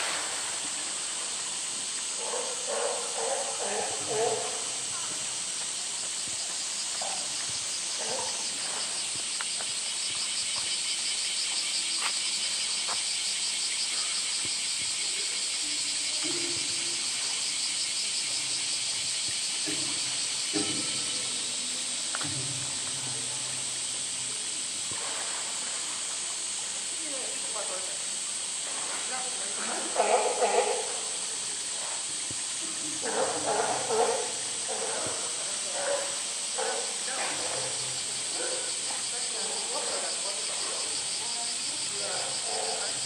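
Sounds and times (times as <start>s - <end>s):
cicada chorus: 0.0s - 43.0s.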